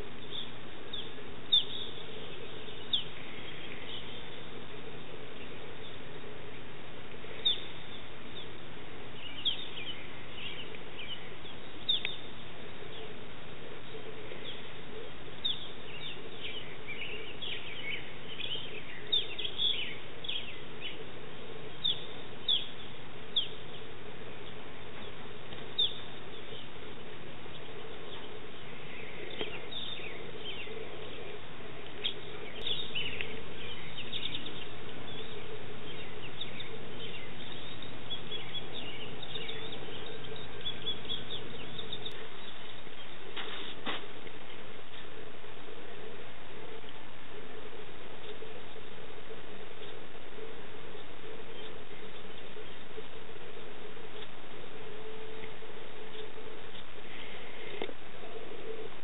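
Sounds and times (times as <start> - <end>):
birds chirping: 0.0 - 59.0
steady low hum: 0.0 - 59.0.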